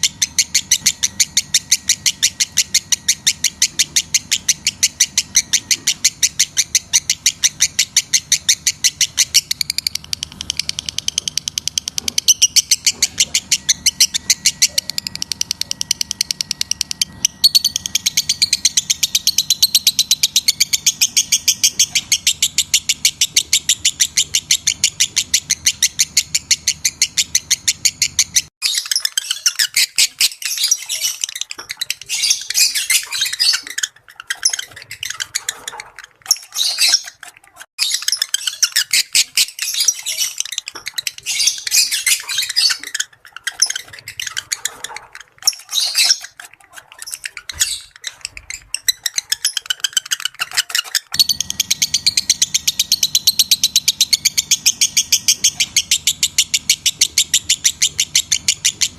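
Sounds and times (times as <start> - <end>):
lovebirds chirping: 0.0 - 58.9.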